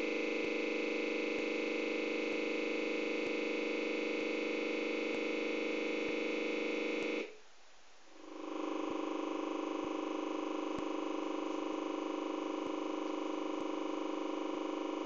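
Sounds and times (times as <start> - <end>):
electronic buzz from tv speaker: 0.0 - 7.4, 8.1 - 15.0.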